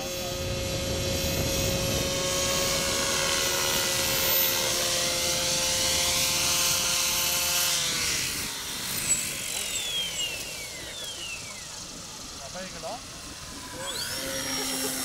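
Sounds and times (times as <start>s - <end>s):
radio-controlled helicopter flying: 0.0s - 15.0s.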